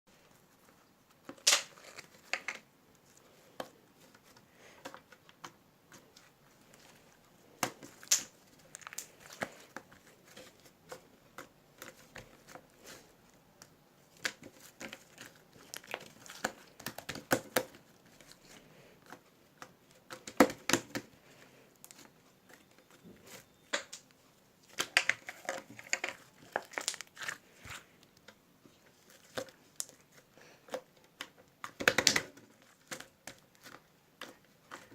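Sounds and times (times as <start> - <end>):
crinkling handling noise: 0.1 - 34.9.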